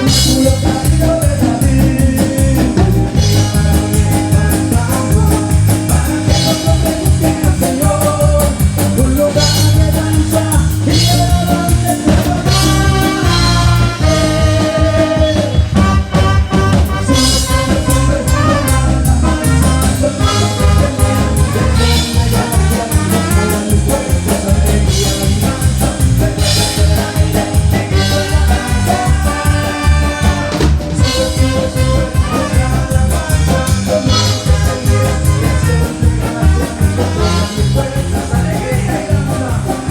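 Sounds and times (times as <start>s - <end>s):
drum kit beat: 0.0s - 39.9s
live band playing worship music: 0.0s - 39.9s
person singing: 0.0s - 39.9s.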